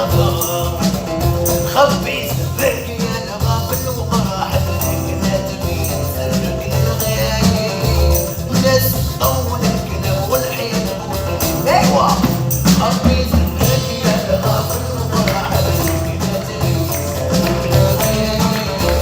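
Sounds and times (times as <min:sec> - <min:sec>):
instrumental music with percussion: 0:00.0 - 0:19.0.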